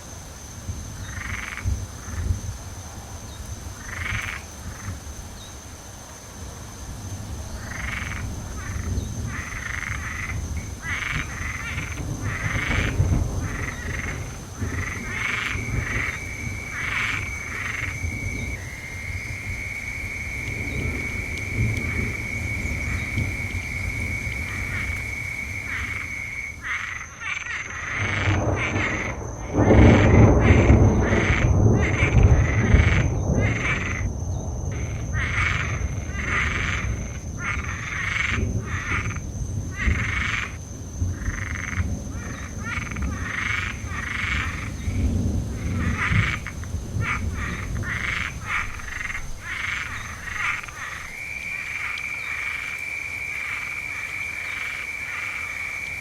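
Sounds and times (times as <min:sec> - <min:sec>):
frogs croaking: 0:00.0 - 0:56.0
distant thunder rumble: 0:06.4 - 0:56.0.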